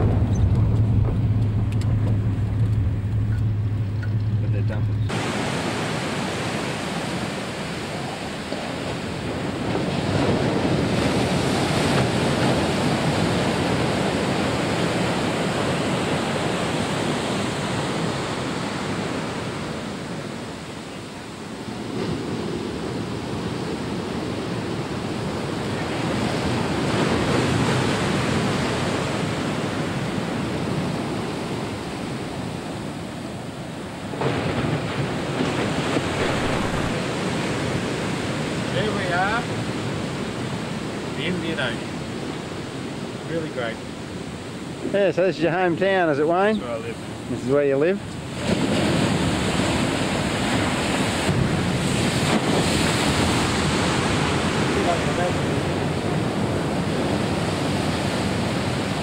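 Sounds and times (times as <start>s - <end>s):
wind on microphone: 0.0s - 43.1s, 48.2s - 59.0s
ocean surf breaking: 0.0s - 59.0s.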